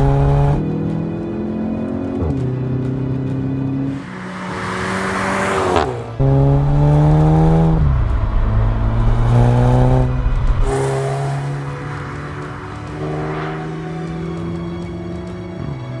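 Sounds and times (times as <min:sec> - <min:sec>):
car engine accelerating: 0:00.0 - 0:16.0
car passing by: 0:02.2 - 0:16.0.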